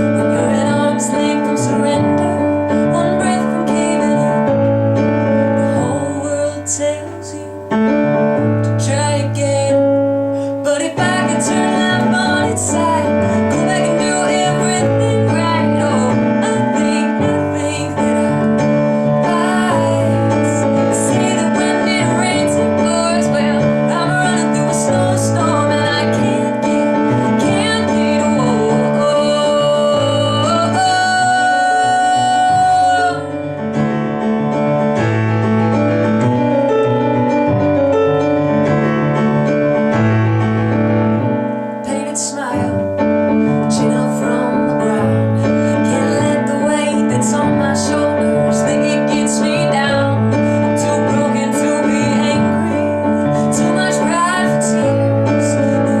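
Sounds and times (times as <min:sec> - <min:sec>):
woman singing a ballad: 0:00.0 - 0:33.7, 0:41.6 - 0:56.0
piano accompaniment: 0:00.0 - 0:56.0.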